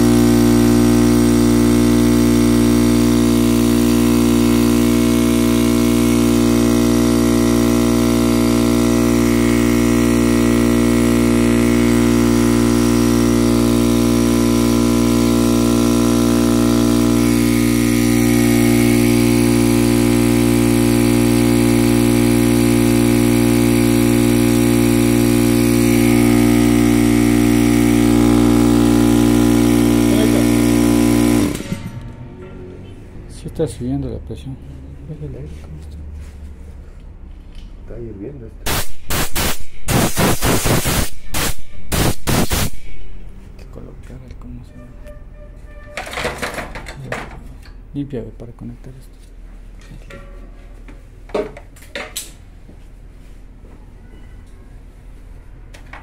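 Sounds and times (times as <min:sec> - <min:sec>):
air compressor running: 0:00.0 - 0:33.8, 0:34.6 - 0:48.1.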